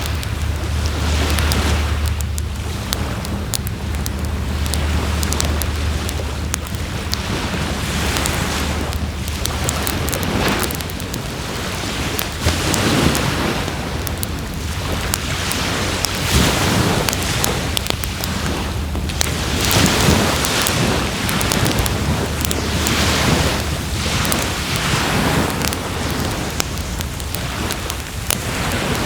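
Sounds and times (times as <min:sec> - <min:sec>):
surf washing in: 0:00.0 - 0:29.0
wood fire crackling and popping: 0:00.0 - 0:29.0.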